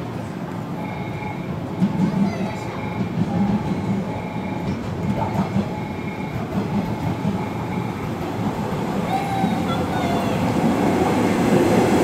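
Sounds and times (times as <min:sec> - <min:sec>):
electric train wheels rumbling on rails: 0:00.0 - 0:12.0.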